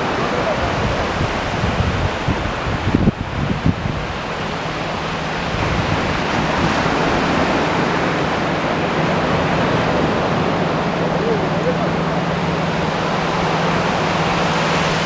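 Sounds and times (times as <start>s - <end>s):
surf washing on beach: 0.0s - 15.0s.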